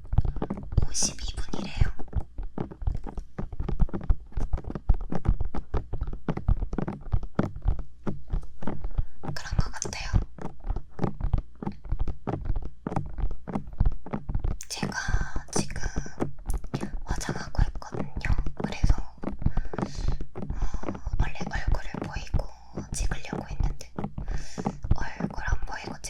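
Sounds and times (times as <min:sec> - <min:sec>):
fingertips tapping on microphone: 0:00.0 - 0:26.0.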